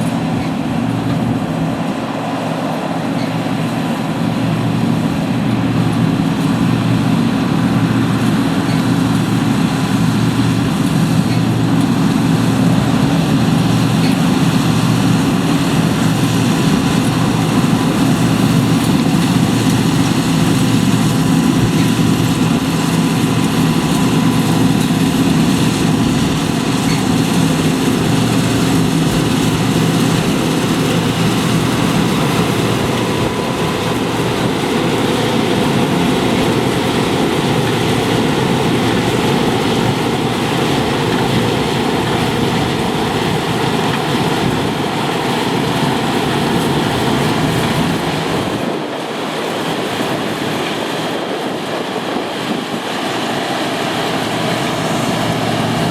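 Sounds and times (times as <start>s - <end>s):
combine harvester mechanical noise: 0.0s - 55.9s
low engine hum: 0.0s - 55.9s.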